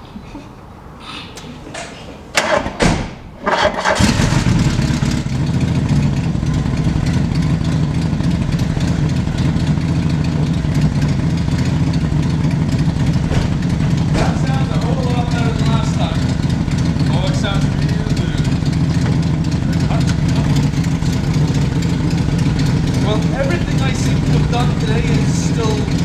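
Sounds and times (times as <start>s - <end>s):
car engine starting and idling: 2.4s - 26.0s.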